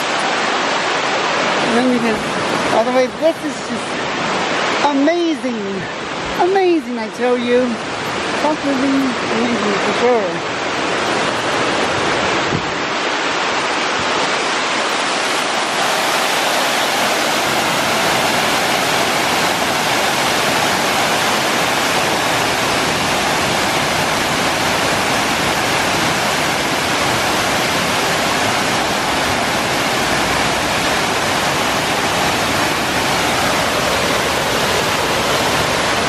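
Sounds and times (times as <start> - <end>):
waterfall rushing into pool: 0.0 - 36.0.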